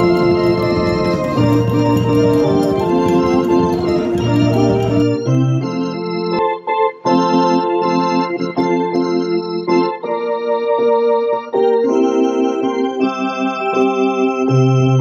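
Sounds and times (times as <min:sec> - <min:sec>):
slow organ music: 0:00.0 - 0:15.0
thin keyboard music: 0:00.0 - 0:15.0.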